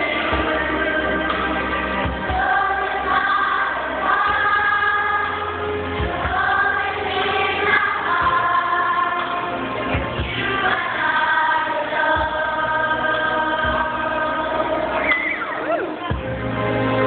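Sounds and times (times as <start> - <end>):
children's choir singing: 0.0 - 16.1.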